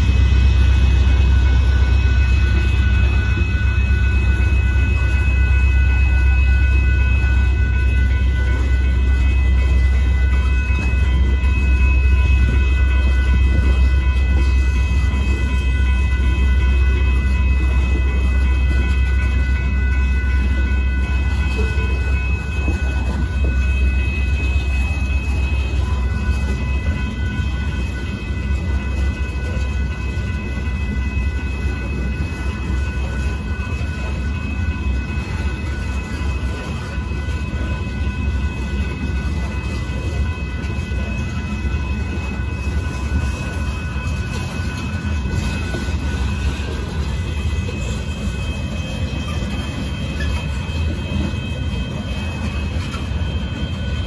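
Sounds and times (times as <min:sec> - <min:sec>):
high-pitched tone: 0:00.0 - 0:54.0
train wheels rumbling on rail: 0:00.0 - 0:54.0.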